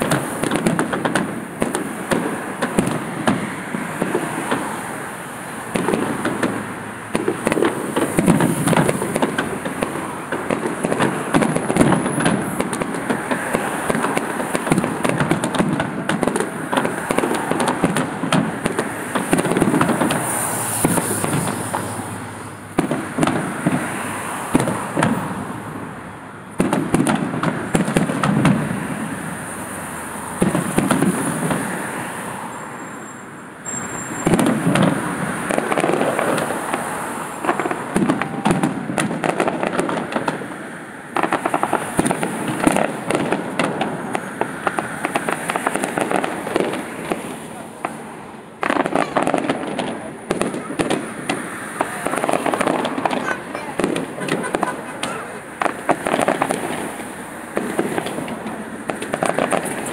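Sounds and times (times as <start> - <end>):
firework shells bursting: 0.0 - 5.0, 5.6 - 25.4, 26.6 - 28.9, 33.6 - 59.9
firework crackling: 0.0 - 59.9.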